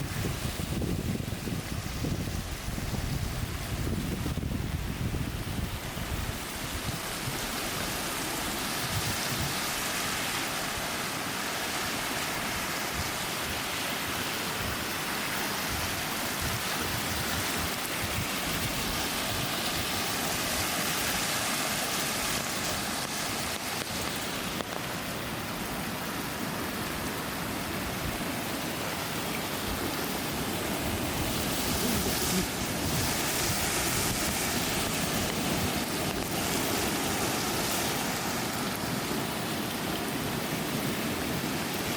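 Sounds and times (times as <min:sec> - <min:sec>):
cascading water rushing: 0:00.0 - 0:41.9.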